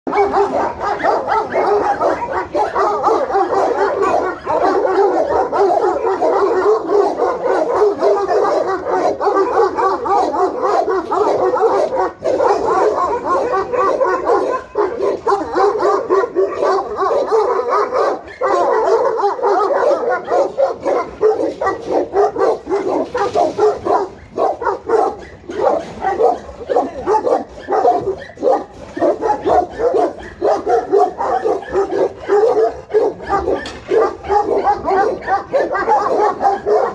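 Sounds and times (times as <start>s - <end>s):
large dogs barking: 0.1s - 36.9s.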